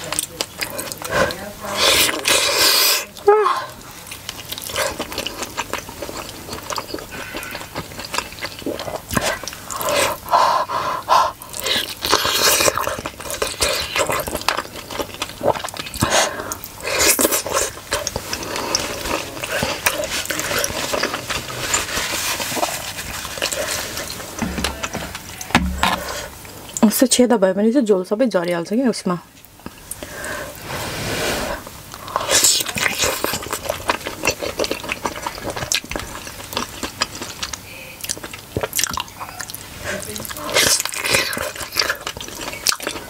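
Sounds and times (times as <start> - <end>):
wet chewing mouth clicks: 0.0 - 26.9, 31.9 - 43.0.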